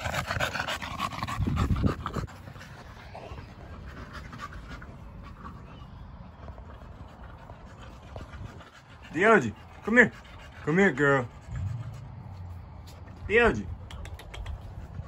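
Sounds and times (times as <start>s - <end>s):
dog panting rapidly: 0.0s - 15.0s.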